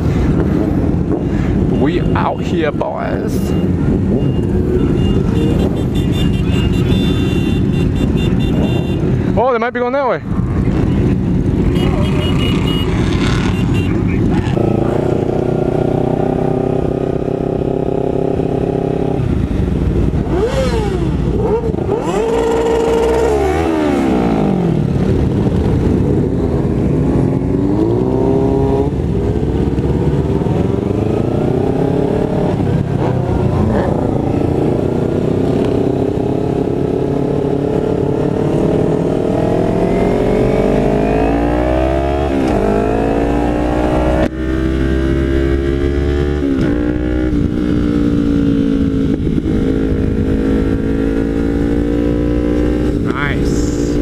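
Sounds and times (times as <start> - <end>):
motorcycle engine revving: 10.4 - 54.0.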